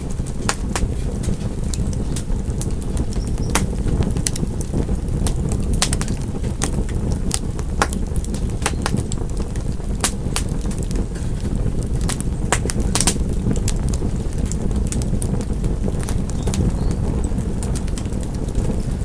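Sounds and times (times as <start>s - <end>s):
low rumble of burning: 0.0s - 19.0s
wood fire crackling: 0.0s - 19.0s.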